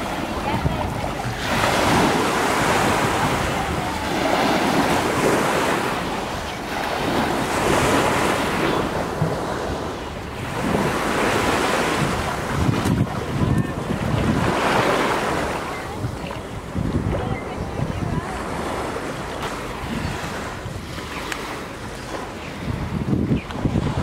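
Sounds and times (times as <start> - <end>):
small waves washing on shore: 0.0 - 24.0
wind buffeting microphone: 0.0 - 24.0.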